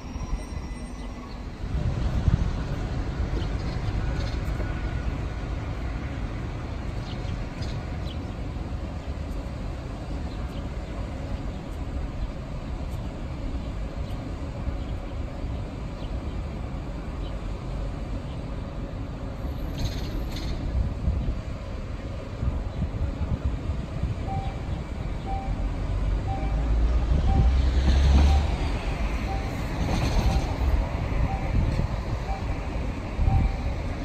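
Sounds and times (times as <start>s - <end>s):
low rumble of standing train: 0.0s - 34.0s.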